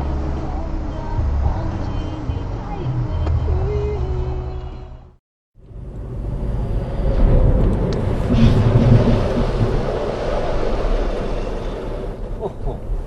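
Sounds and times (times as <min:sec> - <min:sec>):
road vehicle rumble: 0:00.0 - 0:13.0.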